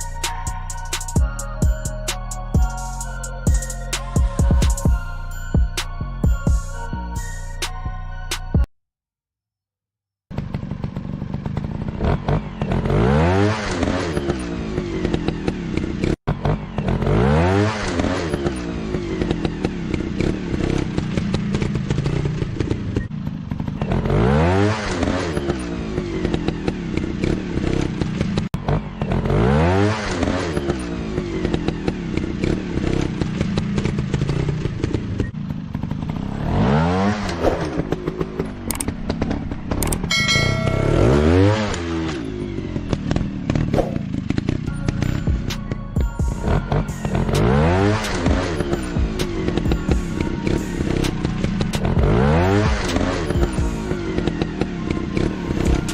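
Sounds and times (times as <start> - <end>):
clatter: 10.3 - 55.9
motorcycle engines revving: 10.3 - 55.9.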